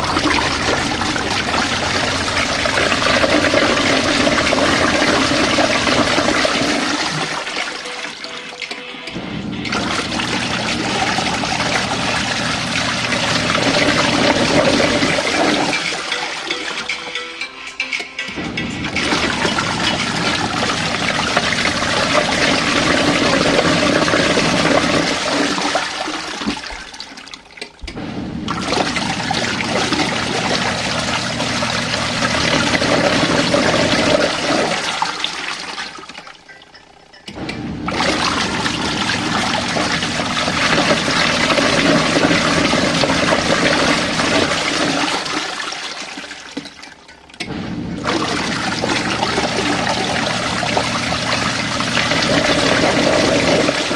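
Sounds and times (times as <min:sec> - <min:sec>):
washing machine churning water: 0:00.0 - 0:17.3, 0:18.3 - 0:53.9.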